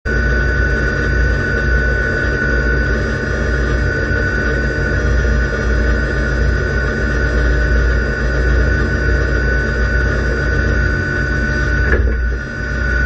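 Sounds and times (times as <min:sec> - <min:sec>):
steady high whine: 0:00.1 - 0:13.0.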